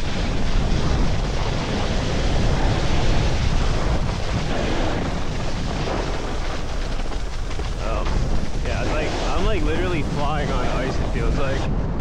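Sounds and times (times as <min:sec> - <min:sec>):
snowboard sliding over icy snow: 0:00.0 - 0:11.7
wind on microphone: 0:00.0 - 0:12.0.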